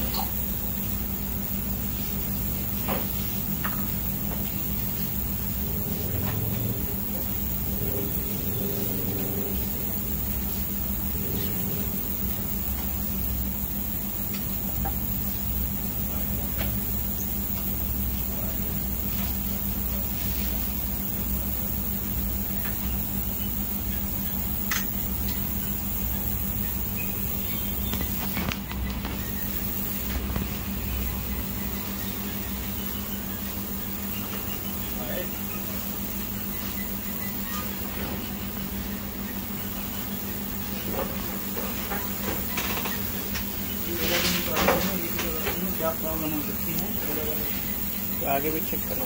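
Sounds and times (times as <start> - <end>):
low electrical hum and hiss: 0.0 - 49.0.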